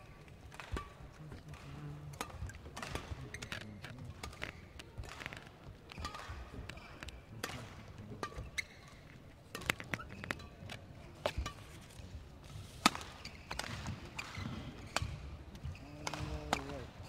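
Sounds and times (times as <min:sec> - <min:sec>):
indoor hall hum: 0:00.0 - 0:17.0
rackets hitting shuttlecock: 0:00.3 - 0:17.0.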